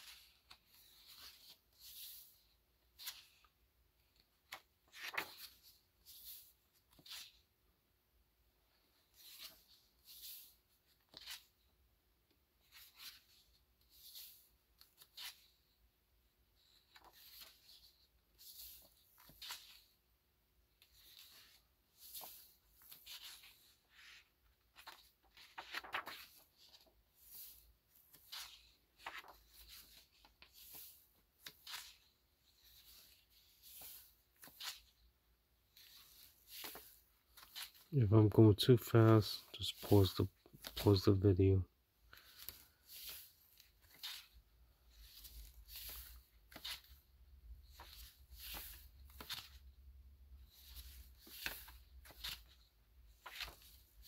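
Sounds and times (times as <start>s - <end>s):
card pages rustling: 0.0s - 3.6s, 4.2s - 7.5s, 9.0s - 11.6s, 16.6s - 20.0s, 20.8s - 37.9s, 39.5s - 41.5s, 42.1s - 54.0s.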